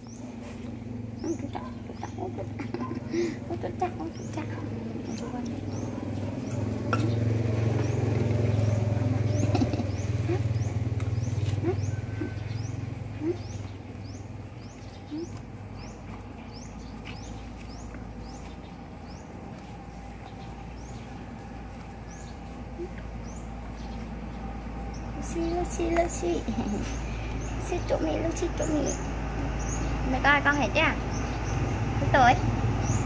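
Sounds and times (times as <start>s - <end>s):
small bird chirping: 0.0s - 33.0s
vehicle engine hum: 0.0s - 33.0s.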